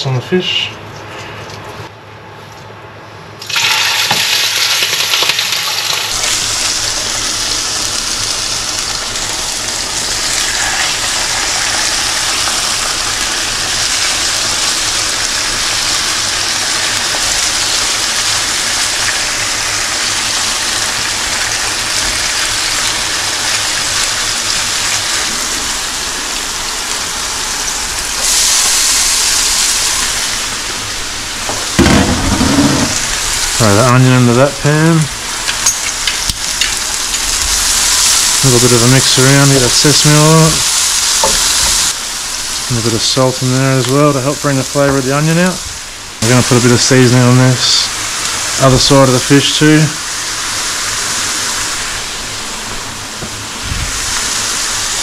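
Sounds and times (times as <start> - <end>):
fish frying in hot oil: 3.4 - 55.0.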